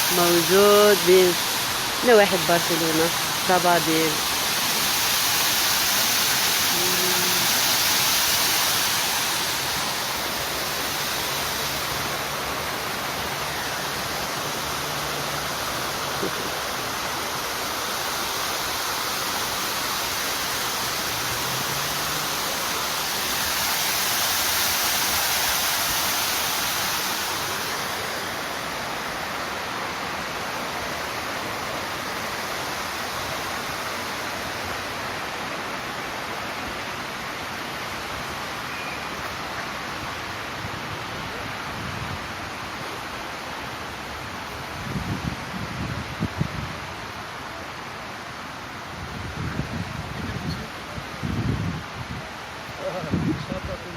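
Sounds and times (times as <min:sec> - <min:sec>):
rush of flowing water: 0:00.0 - 0:53.9.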